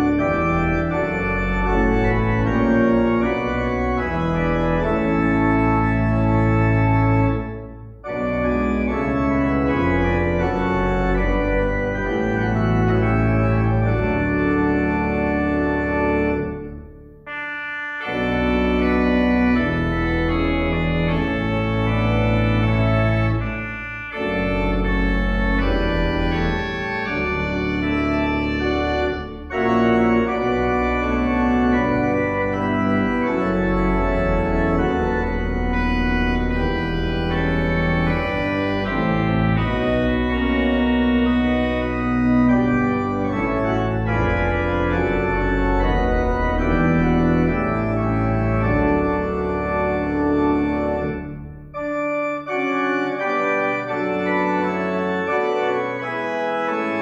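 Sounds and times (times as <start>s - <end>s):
organ chords with bass pedals: 0.0s - 57.0s.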